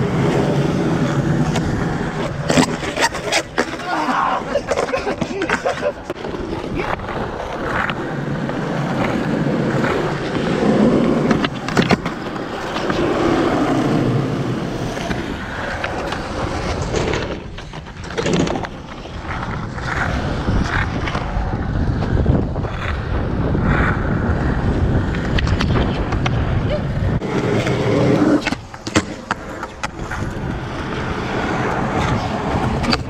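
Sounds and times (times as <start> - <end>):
skateboard clacks: 0.0 - 33.0
skateboard wheels rolling: 0.0 - 33.0.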